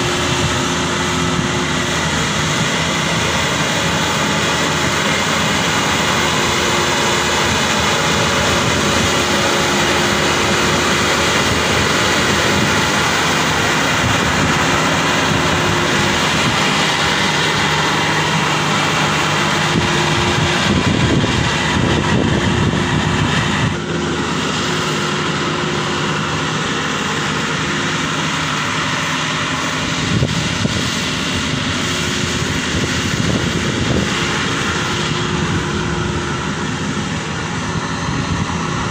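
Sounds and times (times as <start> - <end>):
combine harvester drone: 0.0 - 38.9.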